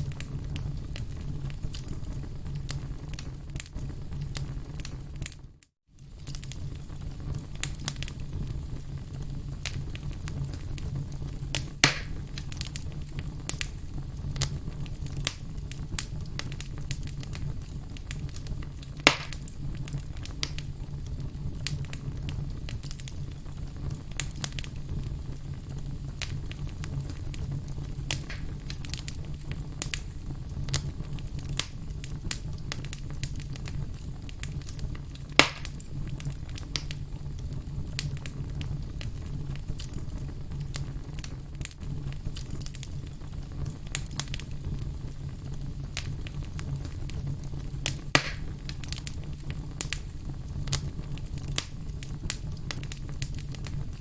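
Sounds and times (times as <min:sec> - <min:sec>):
firewood crackling: 0:00.0 - 0:54.0
loud fire pops: 0:00.0 - 0:54.0
low fire rumble: 0:00.0 - 0:54.0.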